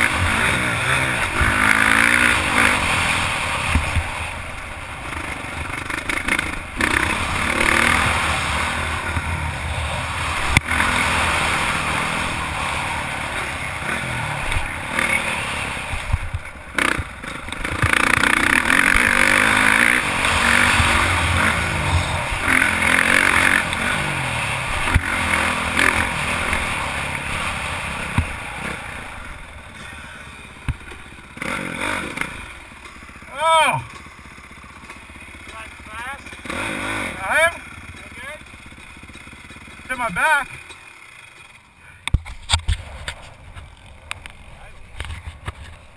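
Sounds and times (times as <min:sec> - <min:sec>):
motocross bike engine revving: 0:00.0 - 0:41.7.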